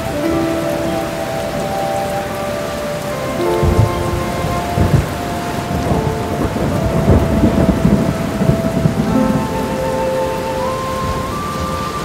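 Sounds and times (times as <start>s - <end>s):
heavy rain: 0.0s - 12.0s
soft held musical notes: 0.0s - 12.0s
thunder rumbling: 0.0s - 12.0s.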